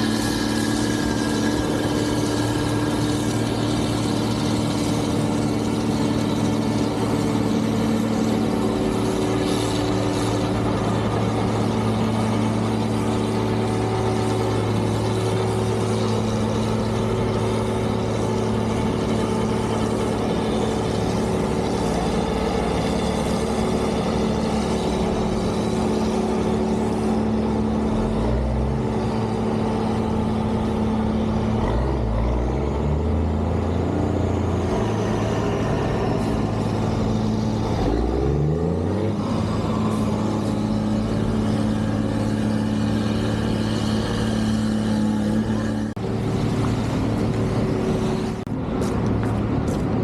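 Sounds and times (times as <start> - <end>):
heavy vehicle engines running: 0.0 - 50.0.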